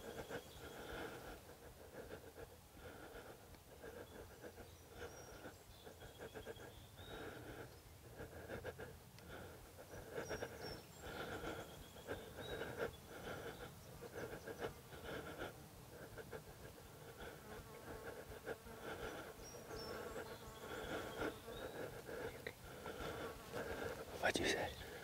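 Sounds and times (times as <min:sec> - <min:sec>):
insect buzzing: 0:00.0 - 0:25.0.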